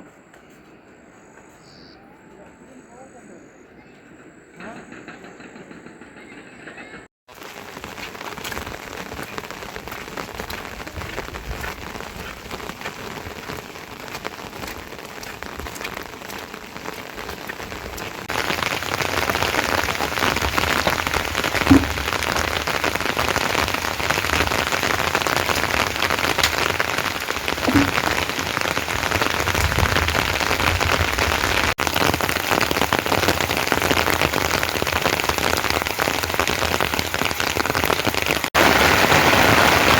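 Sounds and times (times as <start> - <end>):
steady rain falling: 7.3 - 39.9.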